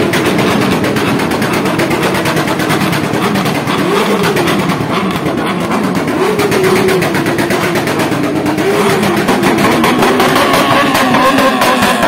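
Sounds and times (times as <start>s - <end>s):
higher engine note: 0.0s - 12.0s
motorcycle engines revving: 0.0s - 12.0s.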